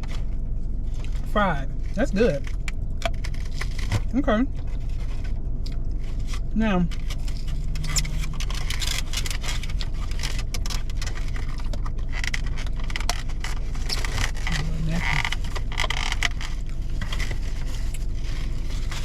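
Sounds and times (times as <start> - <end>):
steady low hum: 0.0 - 19.0
food containers and wrappers handled: 1.9 - 19.0.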